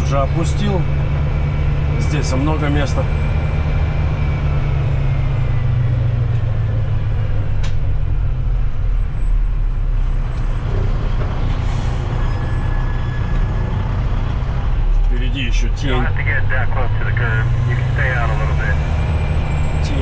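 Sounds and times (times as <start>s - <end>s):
diesel truck engine droning: 0.0s - 20.0s
road noise: 0.0s - 20.0s.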